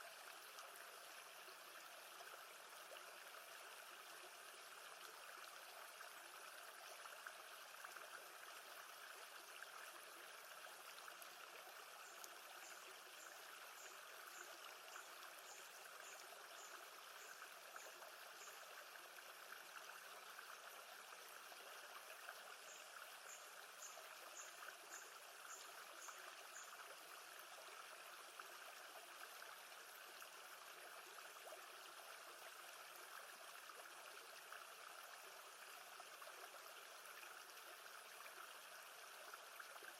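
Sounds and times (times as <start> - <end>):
lake water trickling: 0.0 - 39.9.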